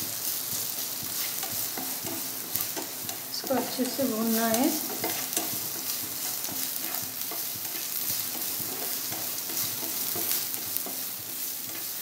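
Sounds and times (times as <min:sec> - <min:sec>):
onion sizzling in oil: 0:00.0 - 0:12.0
utensil scraping a pan: 0:01.1 - 0:12.0.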